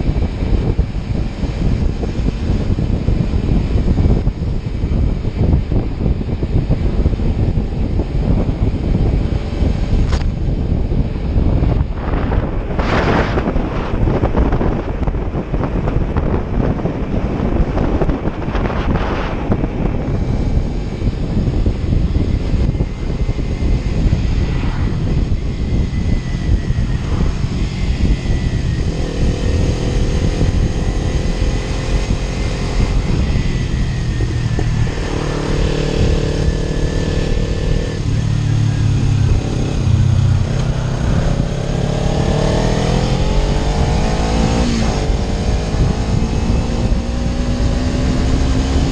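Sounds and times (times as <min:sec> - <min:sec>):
motorcycle engine running: 0:00.0 - 0:48.9
wind noise on microphone: 0:00.0 - 0:48.9.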